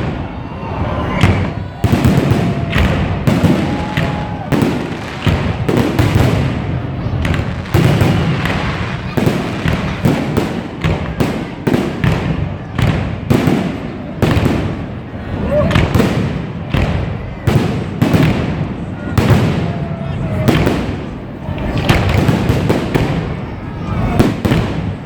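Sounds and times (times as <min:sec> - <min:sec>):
fireworks booming and banging: 0:00.0 - 0:25.0
rumble of echoing explosions: 0:00.0 - 0:25.0.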